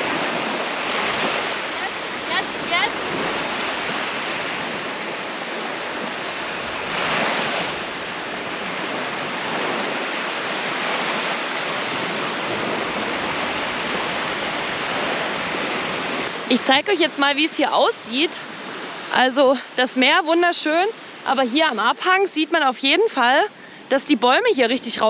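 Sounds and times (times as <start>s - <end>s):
waves breaking: 0.0s - 25.0s.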